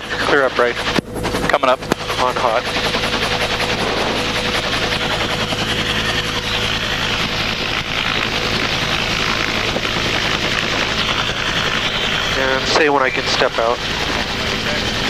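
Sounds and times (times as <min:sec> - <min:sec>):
helicopter turbine and rotor: 0:00.0 - 0:15.0.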